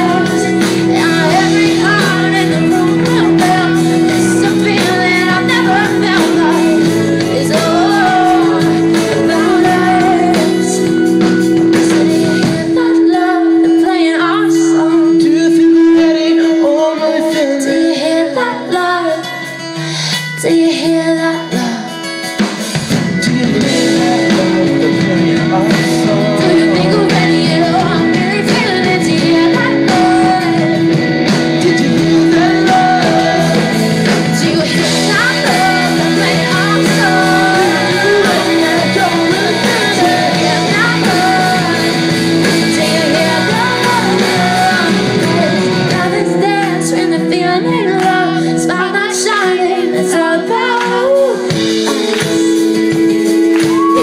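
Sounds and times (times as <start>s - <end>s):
live pop-rock band playing: 0.0s - 54.0s
person singing: 0.0s - 54.0s.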